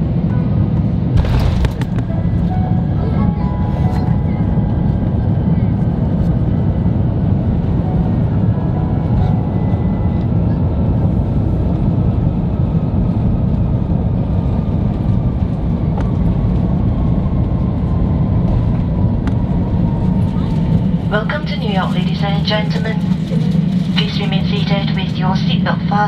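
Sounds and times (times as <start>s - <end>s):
low rumble of wheels and engines: 0.0s - 26.0s.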